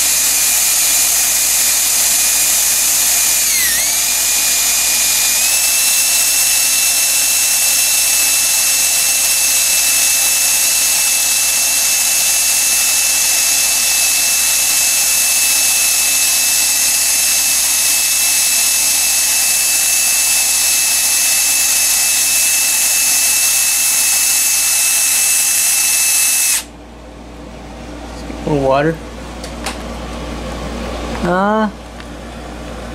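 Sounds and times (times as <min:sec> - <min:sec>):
cordless drill whining: 0:00.0 - 0:26.7.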